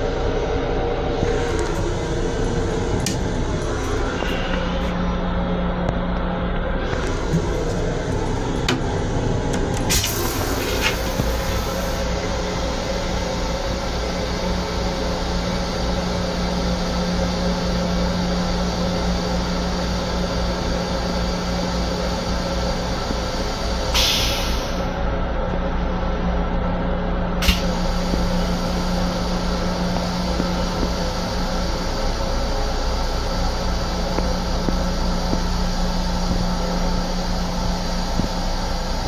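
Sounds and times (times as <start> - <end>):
train car hum and rumble: 0.0 - 39.0.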